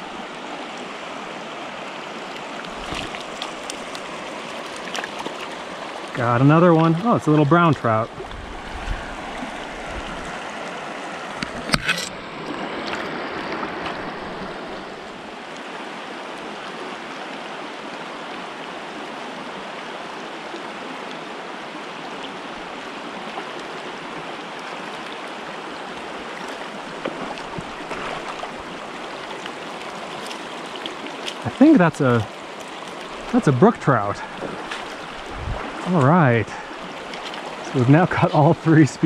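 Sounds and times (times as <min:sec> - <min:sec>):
stream running over stones: 0:00.0 - 0:39.0.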